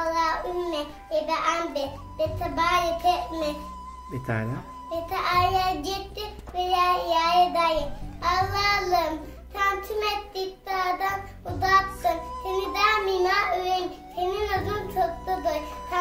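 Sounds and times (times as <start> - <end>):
boy singing: 0.0 - 16.0.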